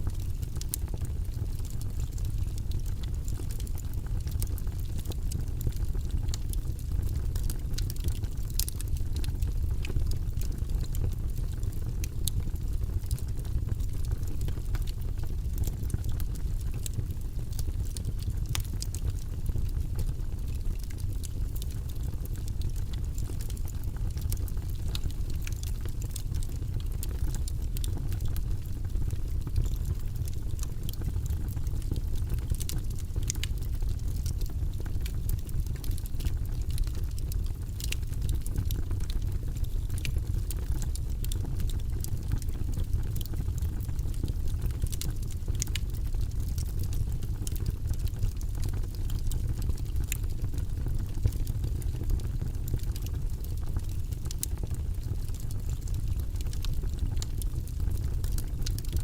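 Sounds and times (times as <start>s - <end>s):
log fire crackling: 0.0s - 59.0s.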